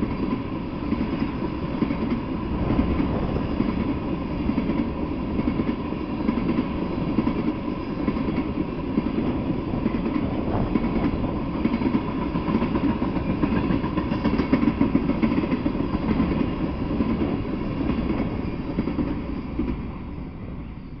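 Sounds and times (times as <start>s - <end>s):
train wheels rumbling on rails: 0.0s - 21.0s
wheels clicking over rail joints: 1.0s - 19.8s.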